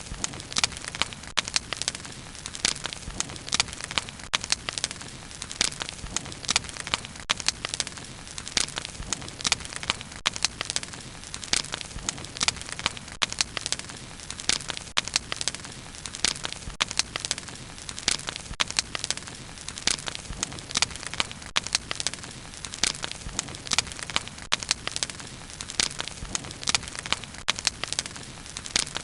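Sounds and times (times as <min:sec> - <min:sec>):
wood crackling and popping: 0:00.0 - 0:29.0.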